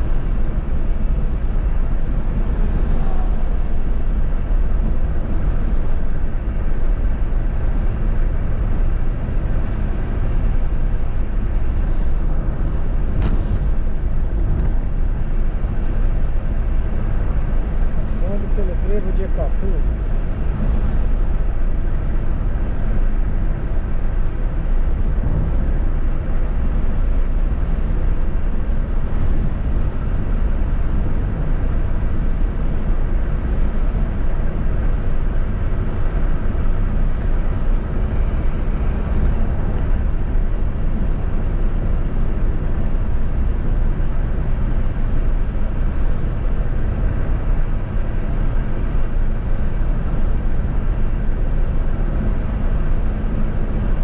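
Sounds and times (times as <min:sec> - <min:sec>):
vehicle road and wind noise: 0:00.0 - 0:54.0.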